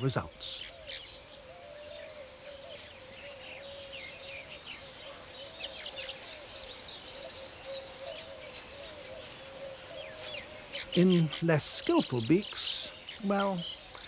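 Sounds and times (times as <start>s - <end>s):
birds chirping and chattering: 0.0s - 14.0s.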